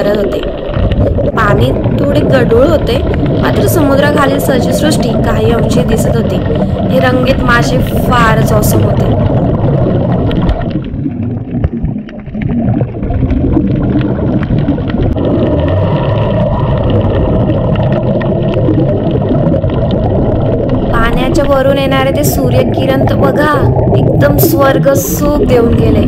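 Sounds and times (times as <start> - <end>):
diver exhaling bubbles underwater: 0.0 - 26.0.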